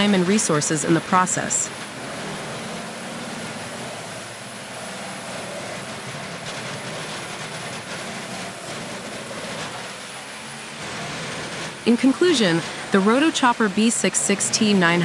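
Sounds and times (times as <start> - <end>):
heavy diesel machinery drone: 0.0 - 15.0.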